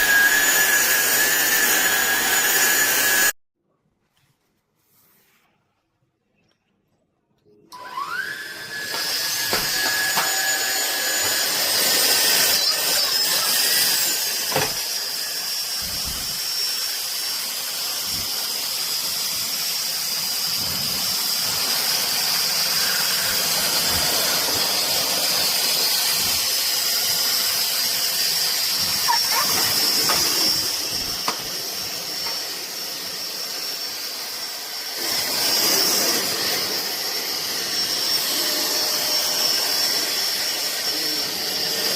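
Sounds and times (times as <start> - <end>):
stick vacuum motor whine: 0.0 - 3.4, 7.7 - 41.9.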